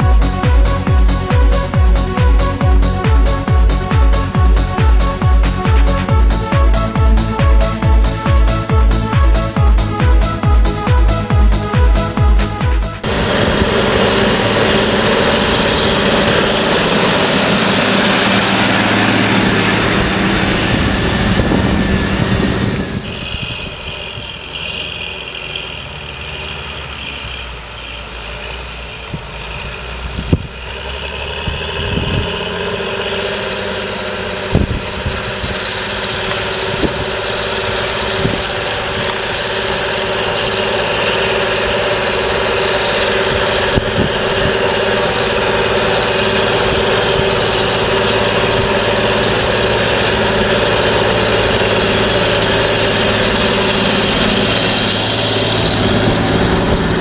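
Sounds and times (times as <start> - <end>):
tractor diesel engine: 0.0 - 57.0.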